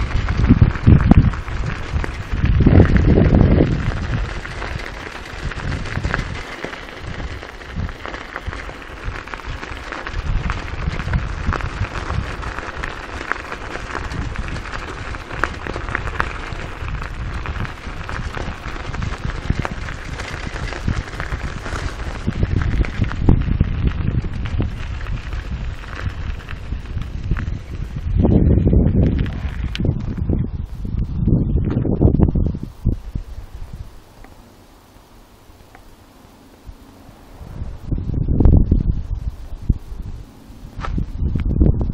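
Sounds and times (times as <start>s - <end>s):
bicycle tyres crunching on gravel: 0.0s - 41.6s
wind rumbling on microphone: 0.0s - 41.9s.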